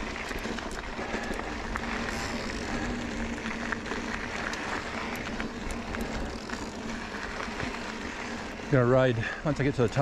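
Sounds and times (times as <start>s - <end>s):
bike tyres rolling over gravel: 0.0s - 10.0s
small clicks and ticks: 0.0s - 10.0s.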